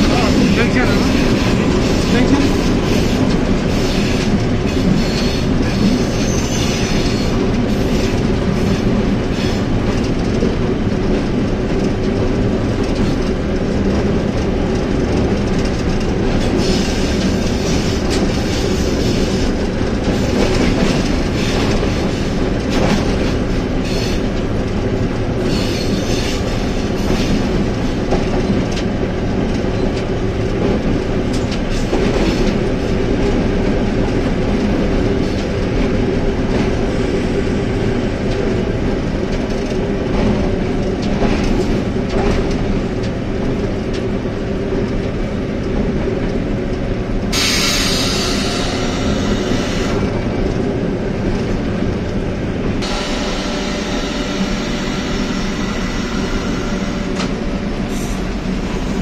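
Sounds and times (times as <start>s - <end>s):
wheels clicking over rail joints: 0.0s - 52.9s
locomotive engine drone: 0.0s - 59.0s.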